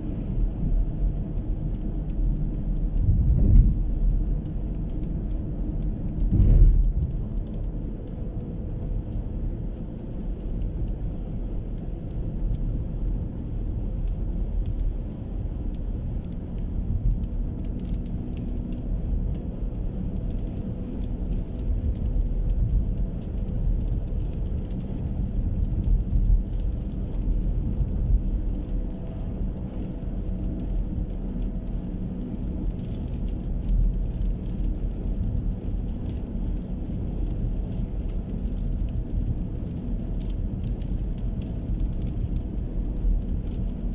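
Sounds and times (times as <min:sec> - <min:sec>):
vehicle rumbling: 0:00.0 - 0:43.9.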